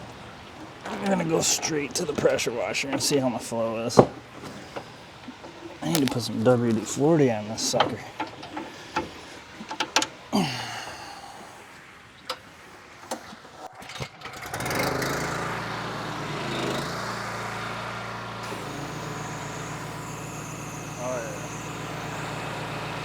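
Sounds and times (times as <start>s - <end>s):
pressure washer engine running: 0.0s - 11.3s, 14.0s - 23.0s.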